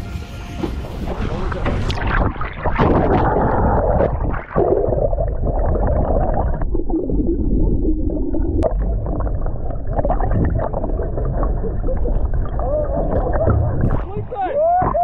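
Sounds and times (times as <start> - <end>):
steady low rumble: 0.0 - 14.3
water gurgling and sloshing: 0.0 - 15.0.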